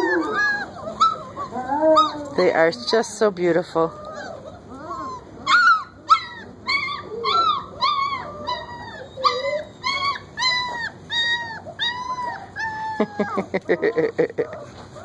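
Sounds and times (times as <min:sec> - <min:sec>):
puppy whimpering: 0:00.0 - 0:15.0.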